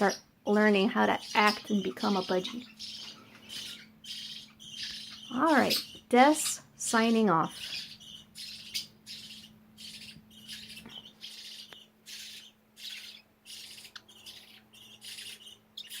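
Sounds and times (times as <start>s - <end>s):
budgies chirping: 0.0s - 16.0s.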